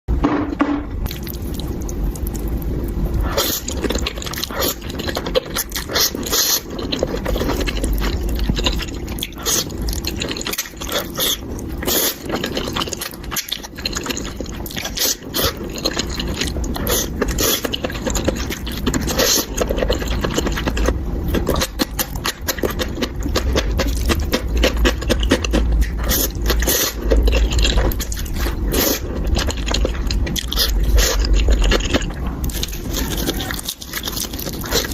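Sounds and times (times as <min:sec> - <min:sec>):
steady low rumble: 0:00.1 - 0:34.9
wet food sounds: 0:01.0 - 0:34.9.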